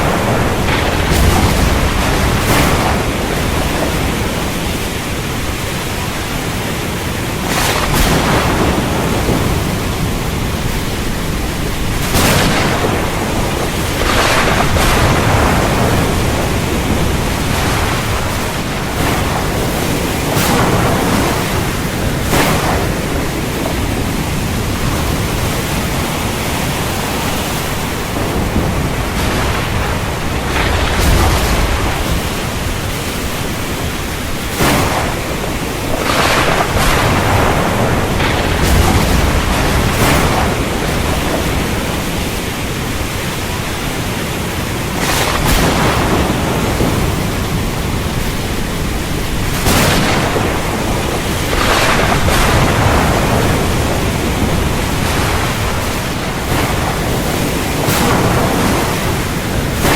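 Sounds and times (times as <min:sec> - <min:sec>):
heavy rain pouring: 0:00.0 - 0:59.9
thunder cracks: 0:00.0 - 0:59.9.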